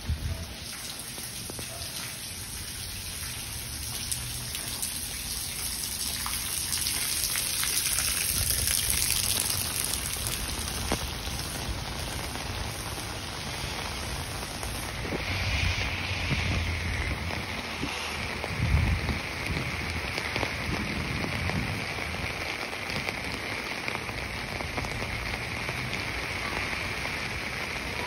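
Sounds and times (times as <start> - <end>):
patter of falling water drops: 0.0 - 28.0.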